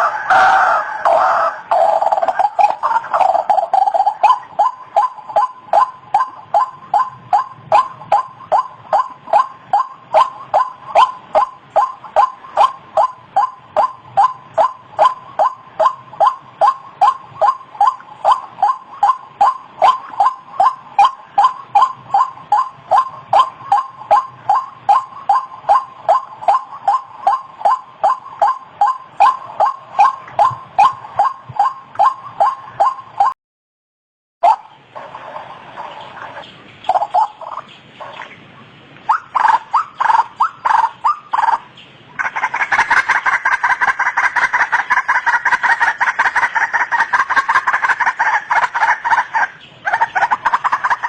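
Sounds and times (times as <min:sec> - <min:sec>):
waterhen calling: 0:00.0 - 0:33.4, 0:34.4 - 0:51.0.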